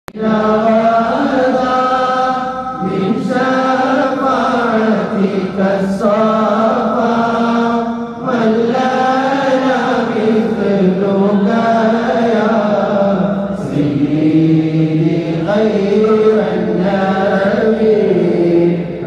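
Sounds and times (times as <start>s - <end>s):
person chanting a devotional song: 0.1s - 19.0s.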